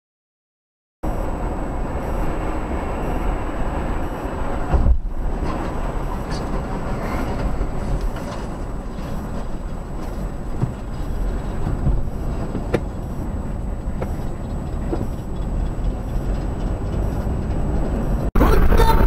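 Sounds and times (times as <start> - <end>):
car road and engine rumble: 1.0 - 19.0.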